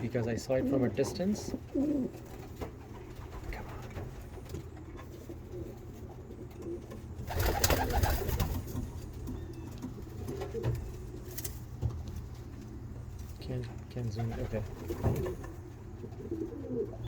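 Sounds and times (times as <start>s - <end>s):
pigeons cooing: 0.1s - 13.3s, 14.2s - 17.0s.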